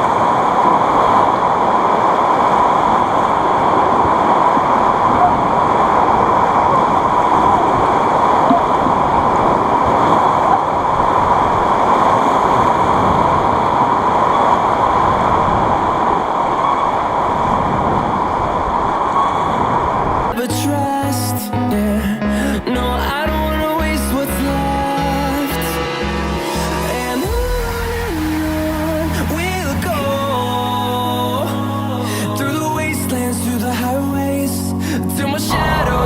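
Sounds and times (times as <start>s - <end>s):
river rapid rushing: 0.0s - 21.6s, 22.2s - 36.0s.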